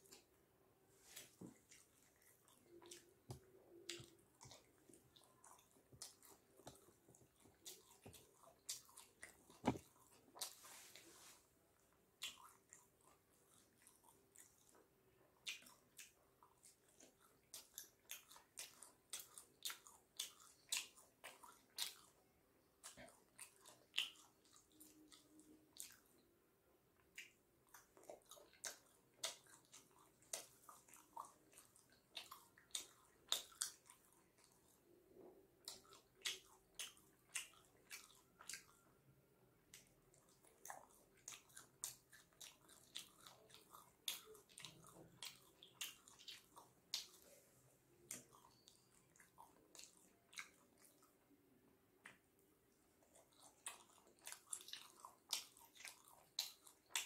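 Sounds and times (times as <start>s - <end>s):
person chewing food: 0.0s - 26.3s, 27.0s - 51.4s, 52.0s - 57.0s.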